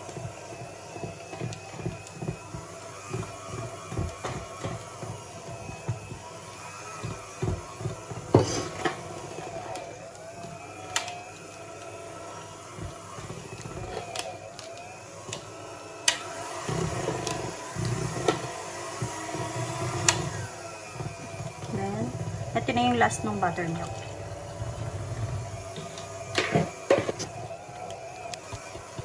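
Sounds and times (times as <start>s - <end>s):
electric hand mixer running: 0.0s - 29.0s.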